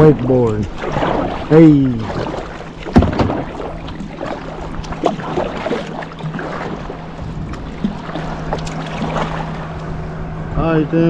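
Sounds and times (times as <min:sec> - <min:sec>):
paddle strokes splashing: 0:00.0 - 0:10.1
motorboat engine drone: 0:00.0 - 0:11.0
water washing against hull: 0:00.0 - 0:11.0.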